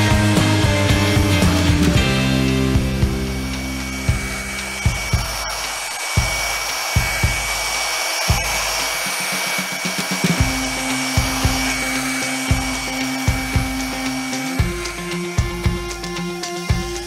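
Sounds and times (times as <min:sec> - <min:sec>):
background music with beat: 0:00.0 - 0:17.0
electric polisher motor whine: 0:00.0 - 0:17.0.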